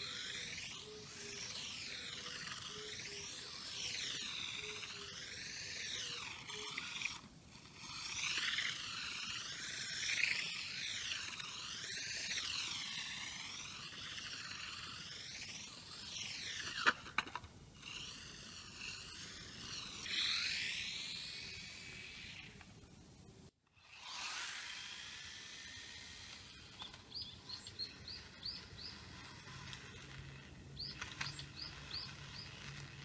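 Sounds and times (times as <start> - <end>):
toy car electric motor whining: 0.0 - 22.7, 23.6 - 33.0.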